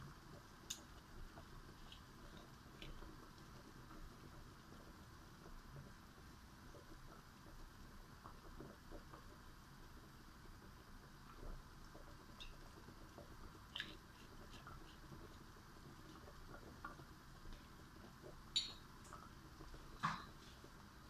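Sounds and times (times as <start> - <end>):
faint clicks and taps: 0.3 - 20.9.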